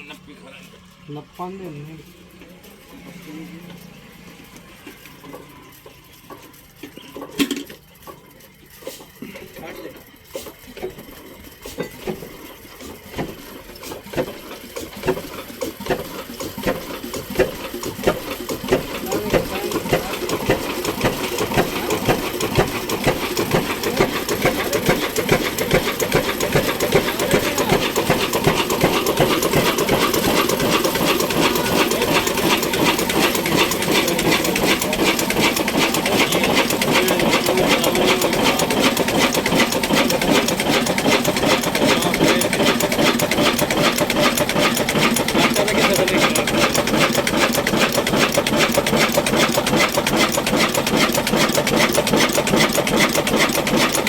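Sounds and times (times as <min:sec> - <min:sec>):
diesel engine clattering: 0:00.0 - 0:54.0.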